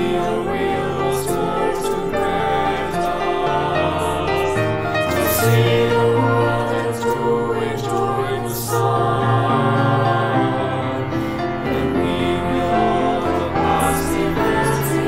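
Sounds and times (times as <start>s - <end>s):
choir singing a hymn: 0.0s - 15.0s
piano accompaniment: 0.0s - 15.0s.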